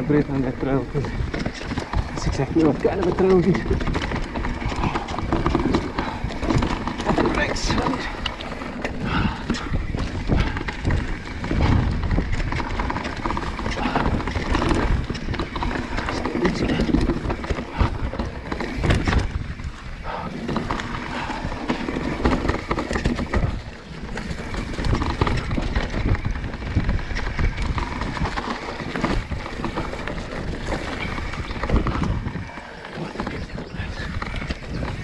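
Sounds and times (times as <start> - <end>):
bike clattering: 0.0 - 35.0
bike tyres crunching over rock: 0.0 - 35.0
wind on microphone: 0.0 - 35.0.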